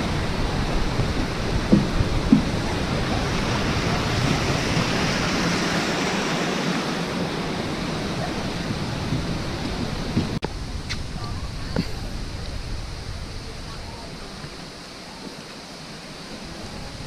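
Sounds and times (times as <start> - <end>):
waterfall rushing and splashing: 0.0 - 17.0.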